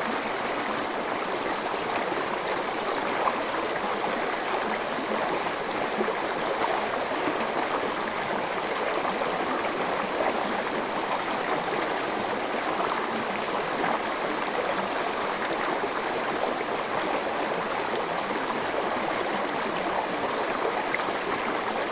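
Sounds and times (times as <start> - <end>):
stream flowing over rocks: 0.0 - 21.9.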